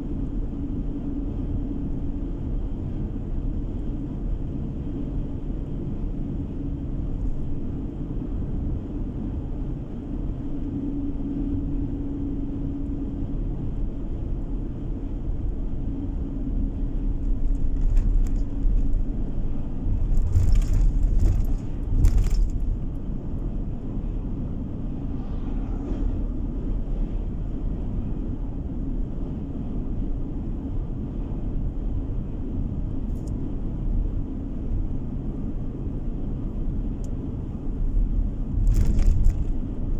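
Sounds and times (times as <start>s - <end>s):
tyre and engine rumble in car: 0.0s - 39.9s.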